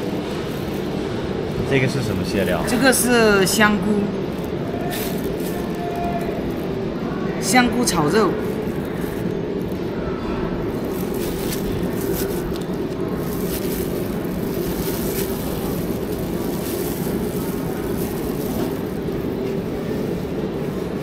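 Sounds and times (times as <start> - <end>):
low market rumble: 0.0 - 21.0.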